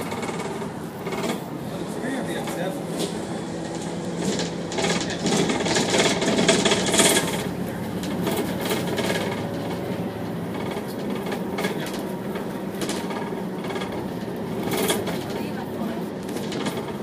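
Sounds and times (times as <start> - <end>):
bodywork rattles and clicks: 0.0 - 17.0
bus diesel engine running: 0.0 - 17.0
constant hum: 0.0 - 17.0.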